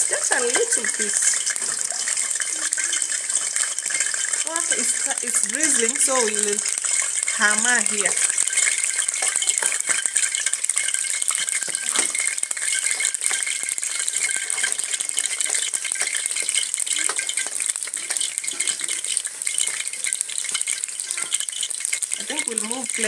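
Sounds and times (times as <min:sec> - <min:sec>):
light drizzle pattering: 0:00.0 - 0:23.0.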